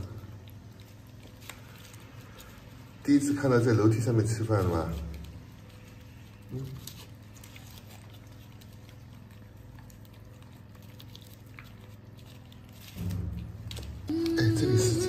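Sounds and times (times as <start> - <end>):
puppies chewing and smacking: 0.0 - 14.1
low steady hum: 0.0 - 15.0.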